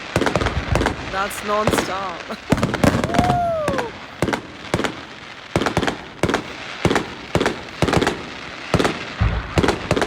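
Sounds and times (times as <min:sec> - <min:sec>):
fireworks banging: 0:00.0 - 0:10.0.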